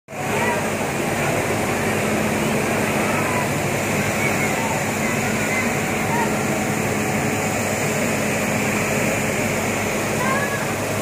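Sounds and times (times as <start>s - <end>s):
crowd chatter: 0.1s - 11.0s
steam locomotive hissing: 0.1s - 11.0s.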